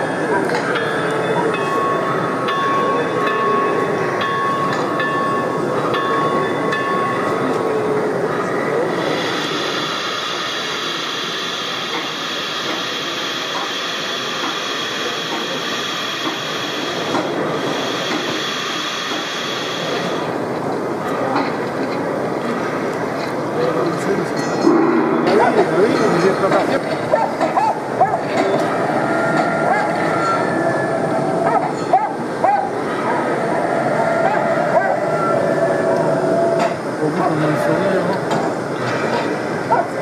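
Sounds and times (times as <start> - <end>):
background hubbub: 0.0 - 40.0.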